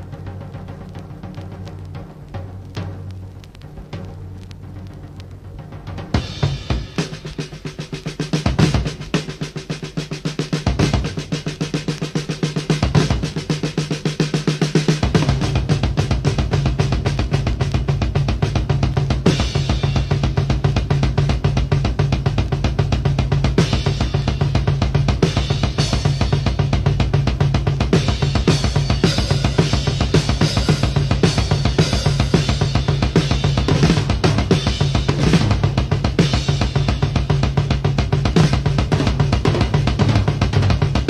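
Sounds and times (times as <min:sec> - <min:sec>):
rock drum kit playing fast: 0:00.0 - 0:41.0.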